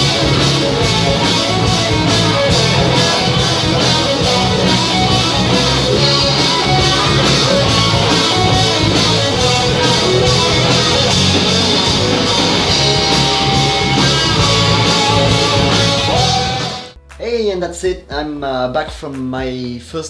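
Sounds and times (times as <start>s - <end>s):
electric guitars: 0.0s - 17.0s
keyboard: 0.0s - 19.9s
drums: 0.0s - 20.0s.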